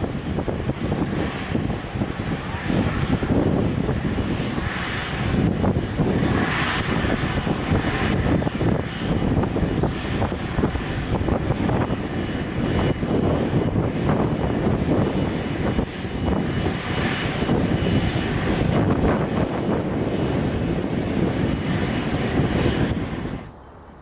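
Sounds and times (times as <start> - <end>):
faint high engine whine: 0.0 - 24.0
jet airliner engines roaring: 0.0 - 24.0.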